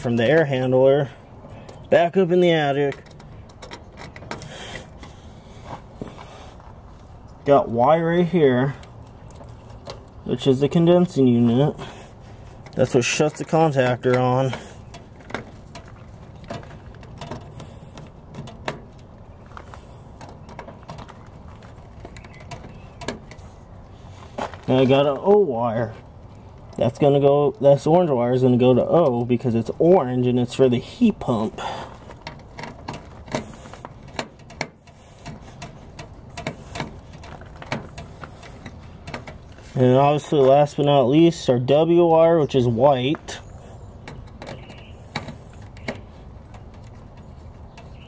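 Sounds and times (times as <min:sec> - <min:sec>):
faint steady background noise: 0:00.0 - 0:48.0.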